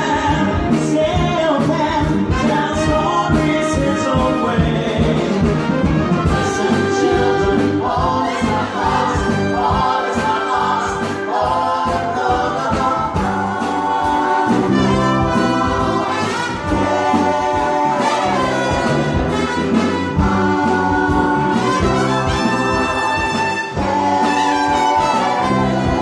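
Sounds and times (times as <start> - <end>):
big band with horns playing: 0.0 - 26.0
group singing together: 2.7 - 26.0.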